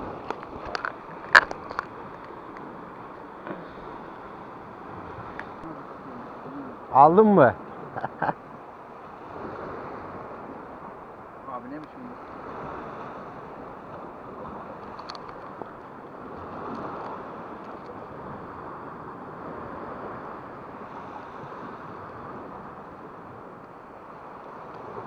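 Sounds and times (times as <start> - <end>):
waves washing on rocky shore: 0.0 - 25.0.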